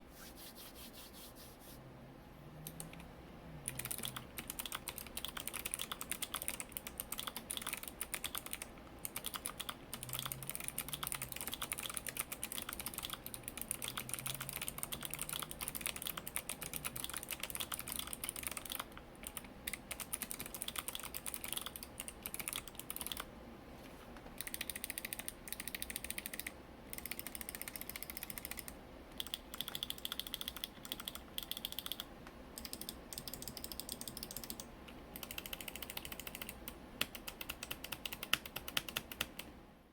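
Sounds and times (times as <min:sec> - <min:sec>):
fast mechanical keyboard typing: 0:03.6 - 0:23.3, 0:24.4 - 0:39.5.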